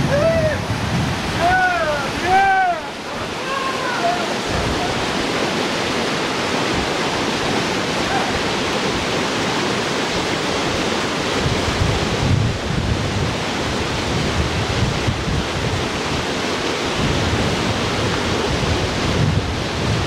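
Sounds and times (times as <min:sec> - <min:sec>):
whitewater rapids rushing: 0:00.0 - 0:20.0
wind on microphone: 0:00.0 - 0:20.0.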